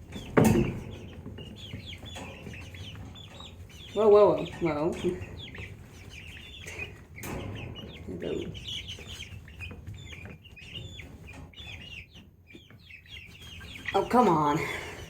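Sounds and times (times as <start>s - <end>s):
young chickens chirping and clucking: 0.0s - 15.0s.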